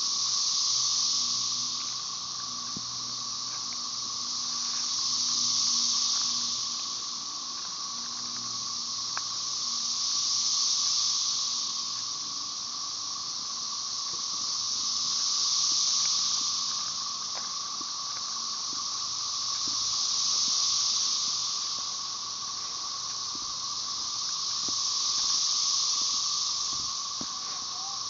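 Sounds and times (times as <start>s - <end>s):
low cicada drone: 0.0s - 28.0s
shrill cicada buzz: 0.0s - 28.0s.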